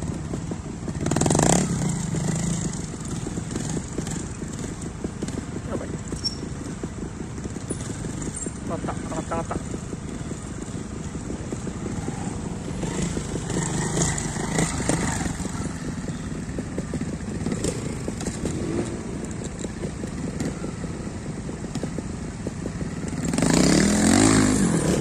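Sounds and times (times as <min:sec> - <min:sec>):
motorcycle engine at low revs: 0:00.0 - 0:25.0.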